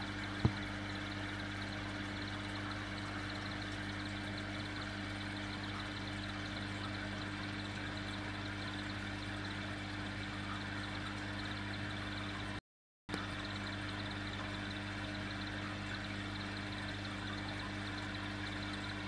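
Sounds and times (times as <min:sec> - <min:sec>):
aquarium equipment humming: 0:00.0 - 0:19.0.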